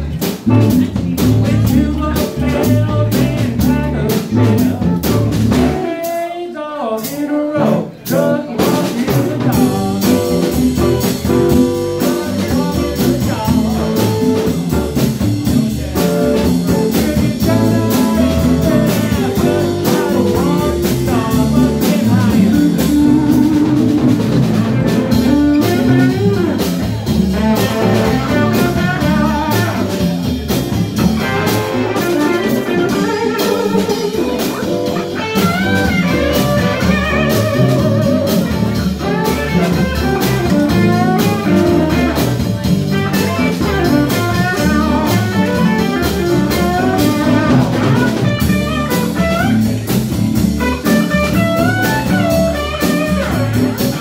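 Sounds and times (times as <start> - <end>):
electric guitars: 0.0 - 6.2, 7.5 - 54.0
blues band playing: 0.0 - 54.0
drum kit: 0.0 - 54.0.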